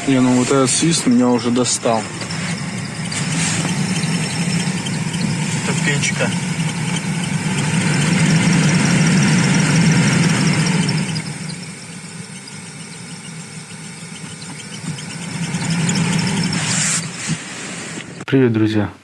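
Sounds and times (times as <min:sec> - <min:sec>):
blower fan squeaking and whistling: 0:00.0 - 0:18.3.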